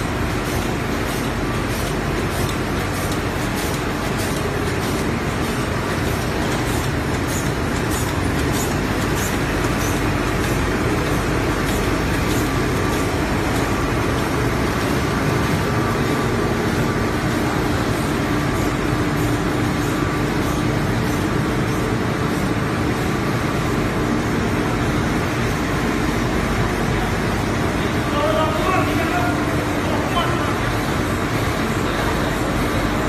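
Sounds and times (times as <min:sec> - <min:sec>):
laminating machine running: 0:00.0 - 0:33.0.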